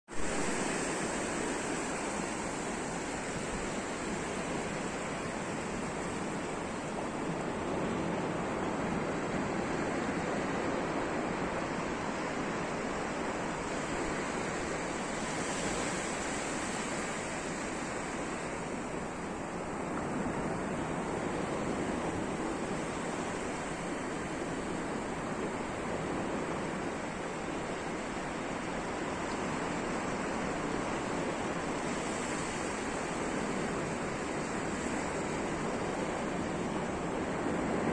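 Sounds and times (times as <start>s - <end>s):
sea surf washing on shore: 0.1s - 37.9s.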